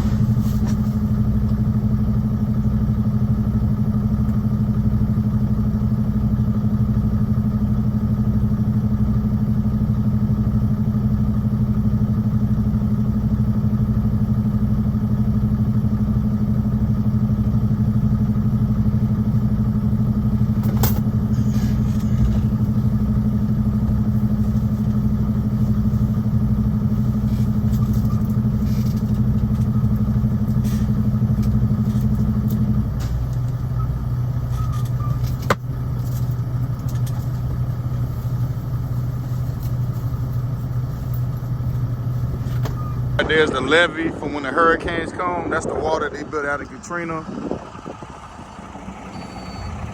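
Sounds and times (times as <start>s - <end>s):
truck diesel engine droning: 0.0s - 49.9s.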